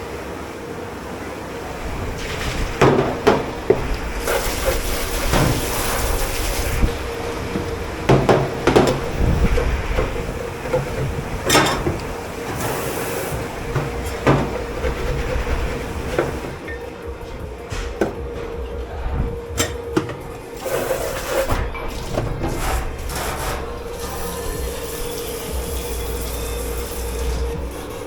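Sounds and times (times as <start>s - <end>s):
steady machine hum: 0.0s - 28.0s
hose spray hissing: 1.8s - 28.0s
crockery and pans clattering: 2.1s - 28.0s.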